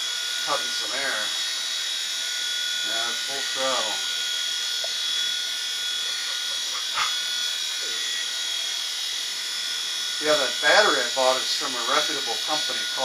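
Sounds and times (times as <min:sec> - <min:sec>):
toy helicopter electric whine: 0:00.0 - 0:13.0.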